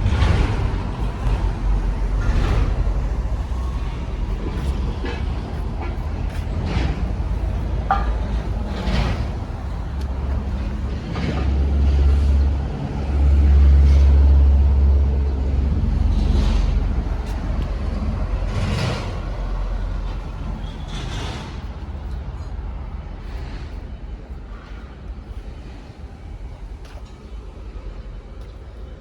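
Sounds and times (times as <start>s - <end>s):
diesel generator engine rumble: 0.0s - 29.0s.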